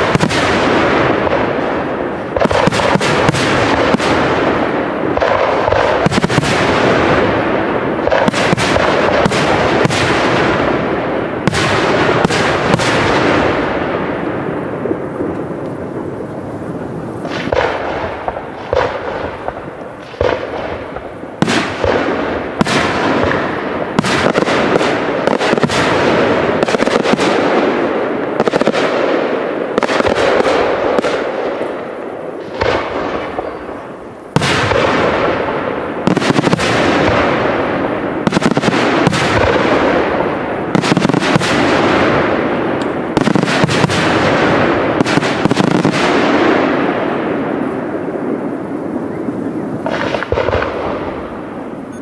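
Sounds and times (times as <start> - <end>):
fireworks bangs: 0.0 - 52.0
fireworks crackle: 0.0 - 52.0.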